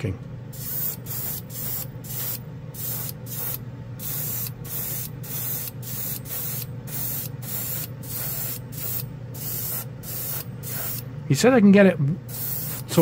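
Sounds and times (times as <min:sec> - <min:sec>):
steady low hum: 0:00.0 - 0:13.0
airbrush spraying hiss: 0:00.6 - 0:11.0, 0:12.3 - 0:13.0.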